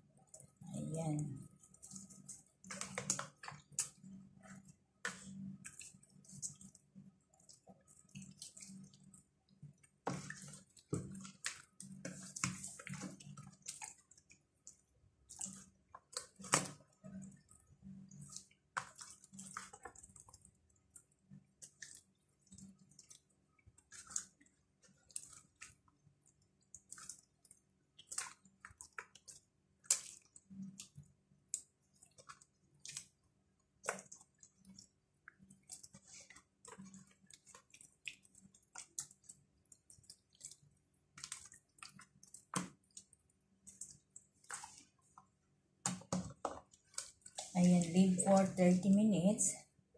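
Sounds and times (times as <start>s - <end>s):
wet squelches of fish marinade: 0.0s - 49.9s.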